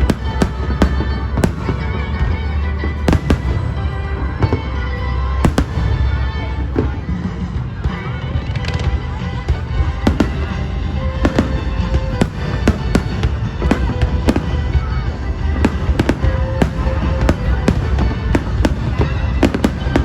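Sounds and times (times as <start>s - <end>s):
fireworks bangs: 0.0s - 20.0s
music playing: 0.0s - 20.0s.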